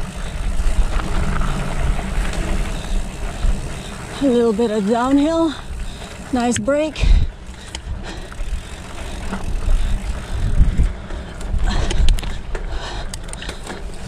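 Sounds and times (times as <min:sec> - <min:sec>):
bike clicking and rattling: 0:00.0 - 0:14.0
bike tyres on dirt and rocks: 0:00.0 - 0:14.0
wind rumbling on microphone: 0:00.0 - 0:14.0.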